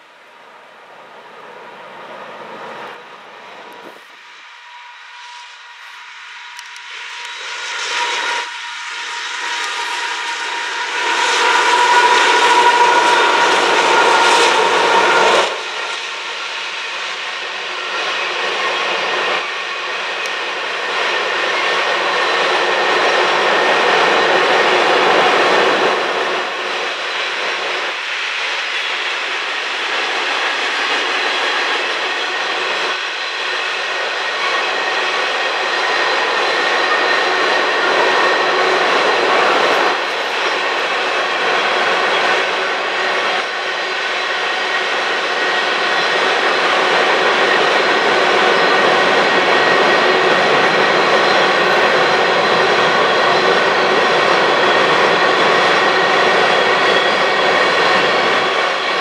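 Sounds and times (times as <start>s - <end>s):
approaching locomotives: 0.0s - 59.0s
train wheels clattering on rails: 2.3s - 59.0s.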